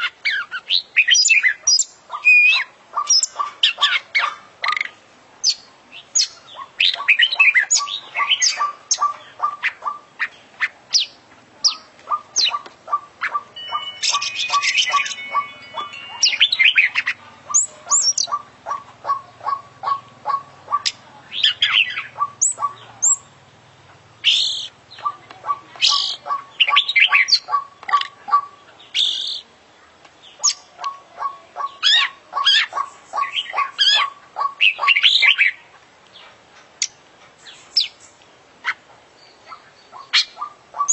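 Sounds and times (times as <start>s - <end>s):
magpie-robin singing: 0.0s - 29.5s, 30.2s - 40.9s.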